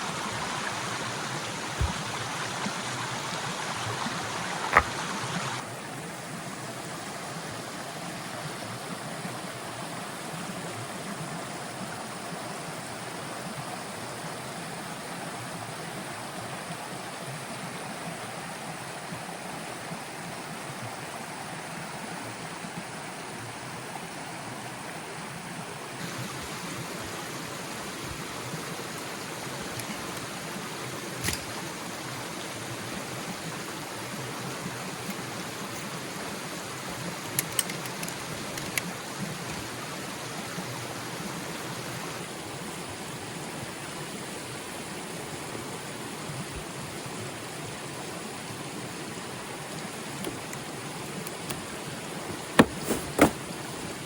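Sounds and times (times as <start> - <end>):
running water: 0.0 - 17.0, 22.3 - 54.0
rain: 0.0 - 52.4.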